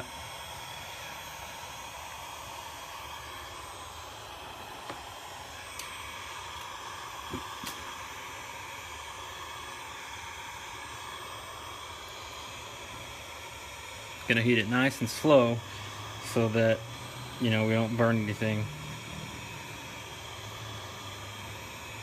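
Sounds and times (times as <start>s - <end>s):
heat gun blowing: 0.0s - 22.0s.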